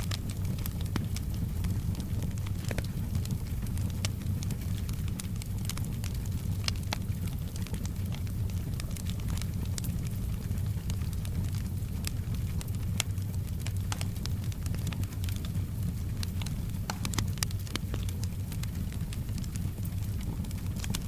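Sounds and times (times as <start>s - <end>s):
low rumble of fire: 0.0s - 21.0s
wood fire crackling and popping: 0.0s - 21.0s.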